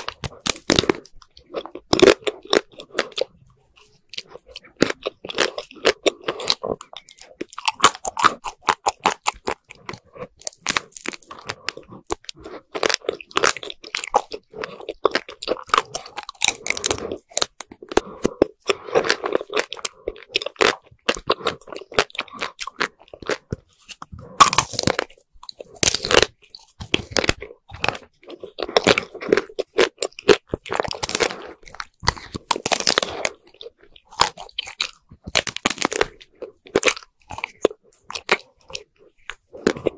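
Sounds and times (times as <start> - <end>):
crunching and chewing ice cream: 0.0 - 39.9.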